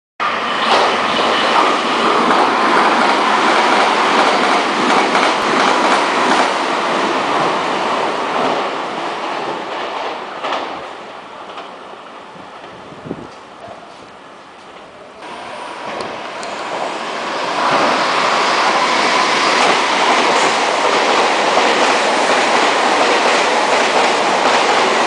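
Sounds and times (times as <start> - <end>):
train wheels rumbling on rail: 0.2 - 25.0.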